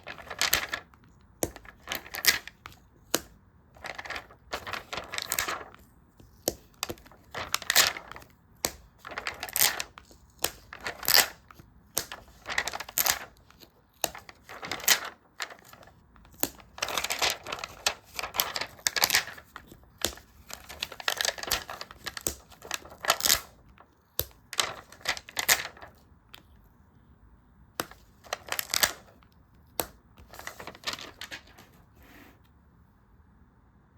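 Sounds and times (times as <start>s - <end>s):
paper crinkling and tapping: 0.0s - 26.7s, 27.8s - 31.9s.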